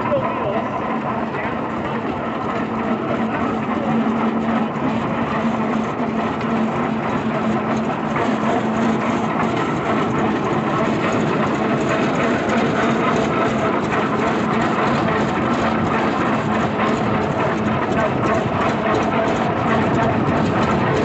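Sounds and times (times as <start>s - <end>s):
heavy engine running: 0.0s - 21.0s.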